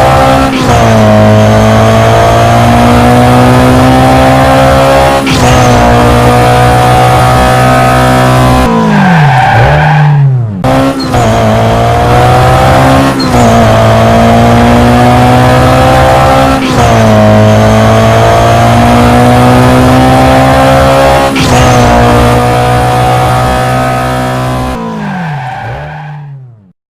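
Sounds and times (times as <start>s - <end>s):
car engine revving high: 0.0s - 25.9s.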